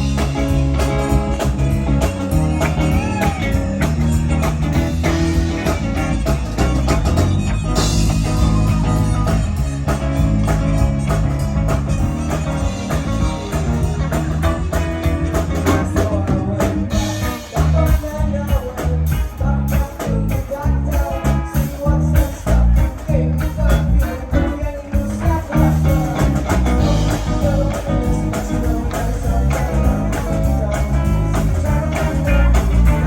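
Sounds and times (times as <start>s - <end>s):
person singing: 0.0s - 6.4s, 7.8s - 14.8s, 15.4s - 33.0s
live rock band playing: 0.0s - 33.0s.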